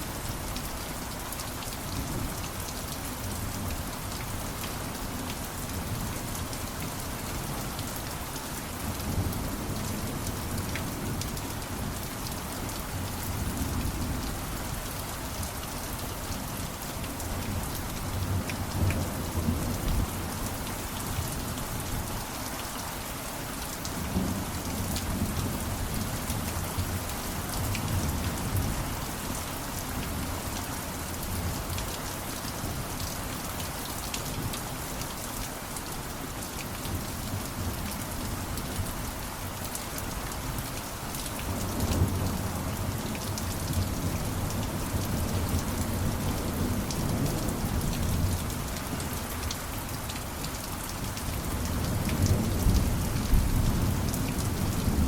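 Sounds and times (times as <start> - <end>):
heavy rain pattering: 0.1 - 55.0.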